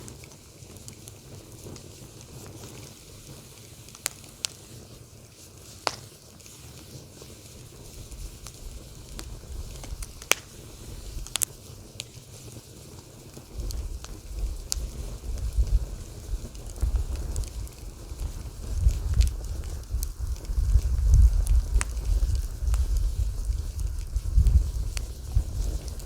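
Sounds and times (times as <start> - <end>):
crackling wood pops: 0.0 - 4.8, 5.6 - 7.3, 8.0 - 26.0
low rumble of flames: 0.0 - 26.0.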